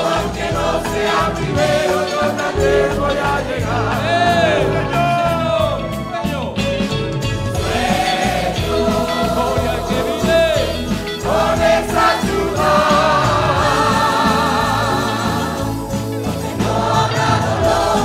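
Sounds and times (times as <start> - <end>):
choir singing a hymn: 0.0 - 6.1, 7.5 - 18.0
strummed guitars and mandolins: 0.0 - 18.0.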